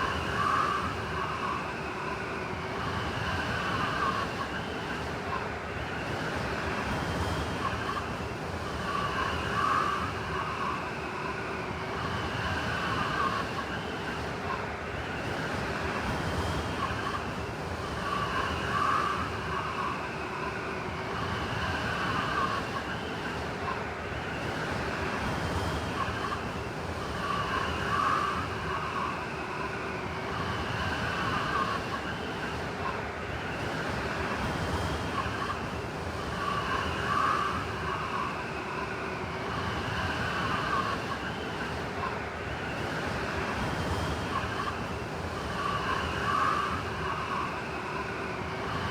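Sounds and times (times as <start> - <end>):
howling blizzard wind: 0.0 - 48.9.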